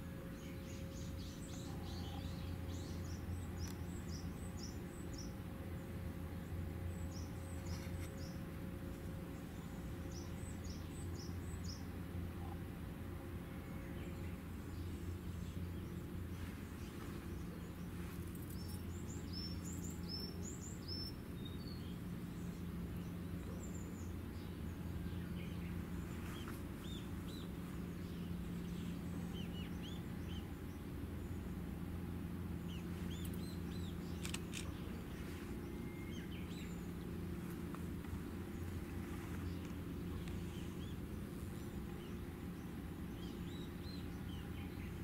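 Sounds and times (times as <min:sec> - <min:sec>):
small birds chirping: 0:00.0 - 0:12.7, 0:13.3 - 0:45.0
steady low hum: 0:00.0 - 0:45.0.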